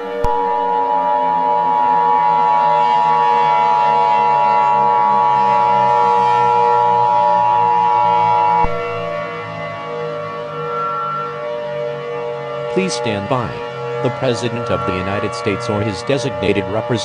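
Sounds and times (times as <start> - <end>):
loud electronic alert tone: 0.0 - 17.0
low steady drone: 0.0 - 17.0.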